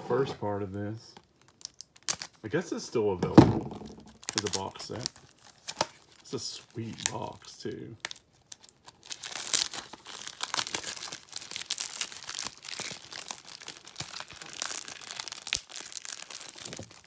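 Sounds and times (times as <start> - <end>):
plastic shrink-wrap crinkling and tearing: 1.2 - 2.6, 4.0 - 17.0.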